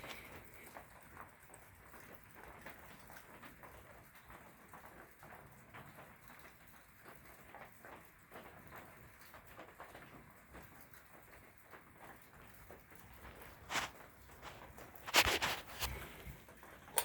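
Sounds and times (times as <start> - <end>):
ceiling fan running quietly: 0.0 - 17.0.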